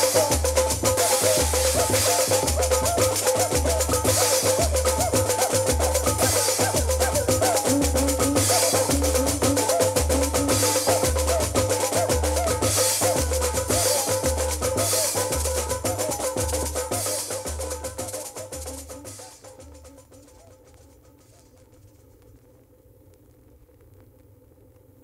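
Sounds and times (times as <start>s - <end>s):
percussion-driven dance music: 0.0s - 21.4s.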